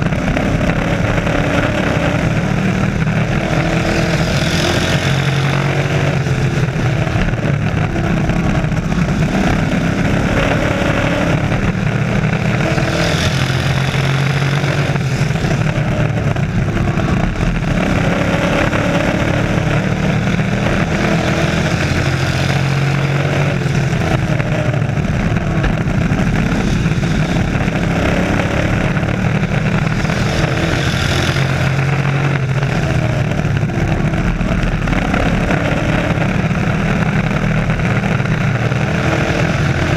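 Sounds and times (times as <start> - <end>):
race truck engines passing: 0.0 - 39.9.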